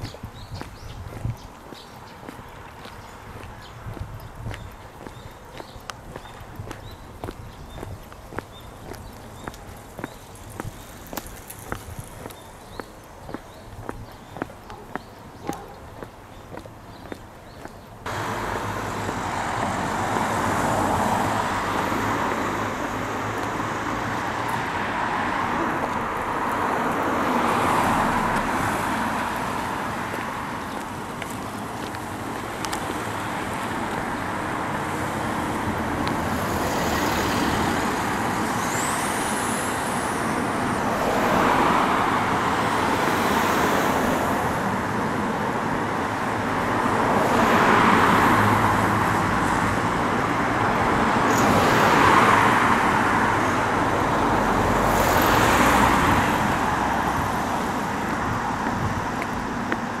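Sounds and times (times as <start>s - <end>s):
background traffic noise: 0.0s - 60.0s
cars passing: 0.0s - 60.0s.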